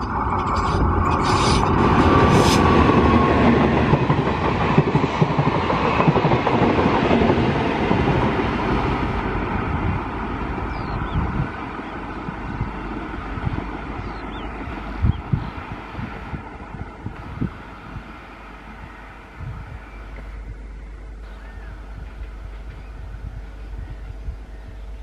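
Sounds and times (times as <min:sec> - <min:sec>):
passenger train passing at speed: 0:00.0 - 0:25.0.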